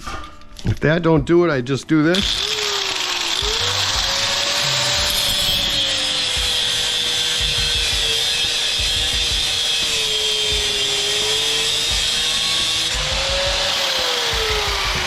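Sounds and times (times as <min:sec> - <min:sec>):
electric power tool running: 0:02.1 - 0:15.0.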